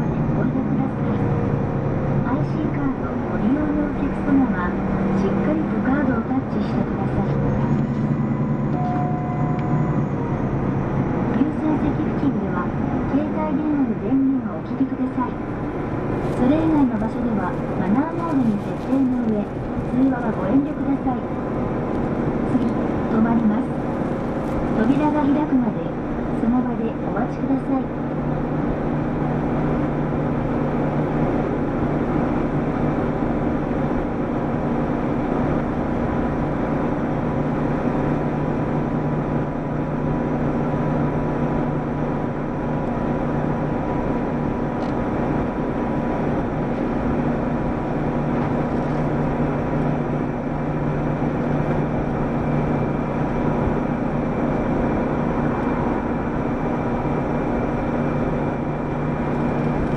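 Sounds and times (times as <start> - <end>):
bus diesel engine drone: 0.0 - 59.9
road noise: 0.0 - 59.9.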